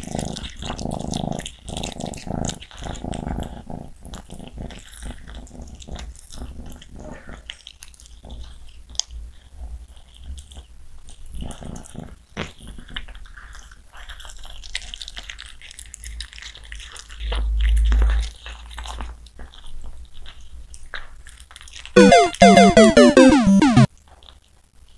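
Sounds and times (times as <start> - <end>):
cat licking and chewing meat: 0.0 - 21.8.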